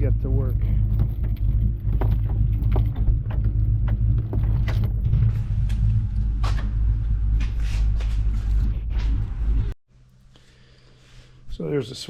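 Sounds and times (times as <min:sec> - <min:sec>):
garage door creaking and rattling: 0:00.0 - 0:09.8
garage door motor hum: 0:00.0 - 0:09.8.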